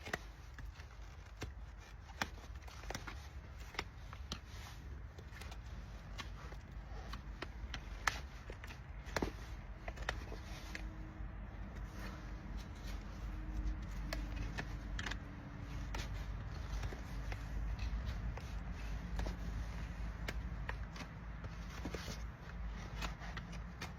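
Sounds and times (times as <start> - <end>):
hoof trimming scraping and clicking: 0.0 - 23.9.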